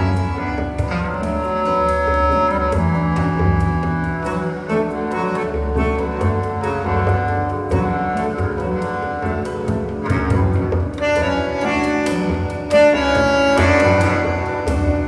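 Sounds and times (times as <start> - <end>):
instrumental music with low bass: 0.0 - 15.0.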